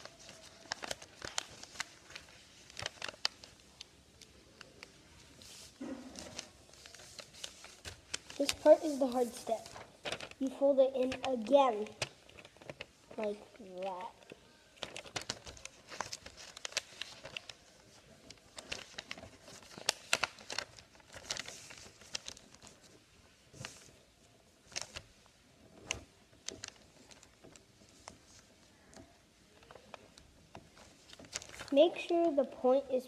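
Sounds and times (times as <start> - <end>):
paper being folded and creased: 0.0 - 33.0.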